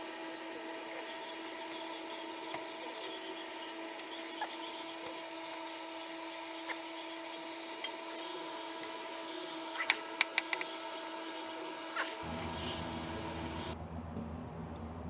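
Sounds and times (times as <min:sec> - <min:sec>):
workshop hum: 0:00.0 - 0:15.0.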